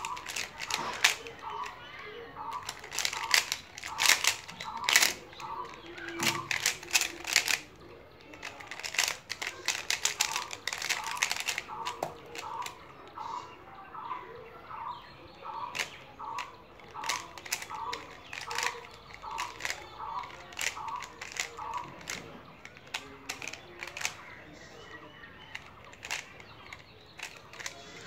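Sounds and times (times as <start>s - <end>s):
puzzle cube clicking: 0.0s - 1.8s, 2.4s - 12.8s, 15.6s - 24.4s, 25.4s - 27.8s
bird calling: 0.0s - 7.6s, 8.2s - 27.8s.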